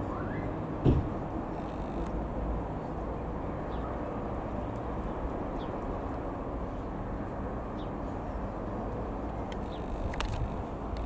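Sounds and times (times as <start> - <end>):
light aircraft engine and propeller: 0.0 - 11.0.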